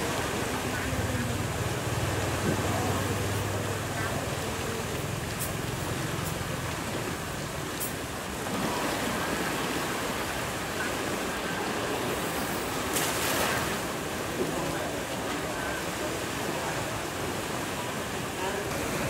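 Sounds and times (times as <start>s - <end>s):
water rushing through channel: 0.0s - 19.0s.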